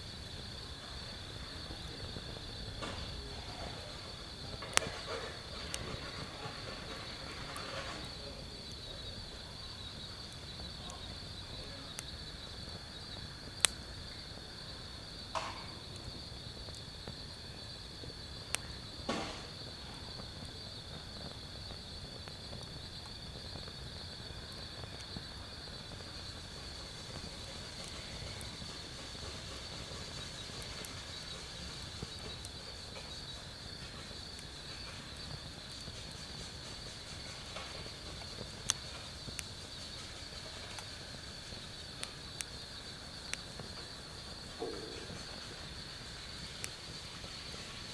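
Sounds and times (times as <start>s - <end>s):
crickets trilling: 0.0s - 47.9s
wood fire popping and crackling: 0.0s - 47.9s.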